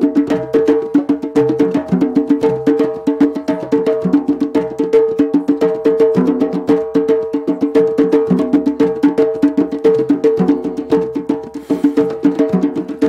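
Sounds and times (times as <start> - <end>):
drums played fast: 0.0 - 13.0.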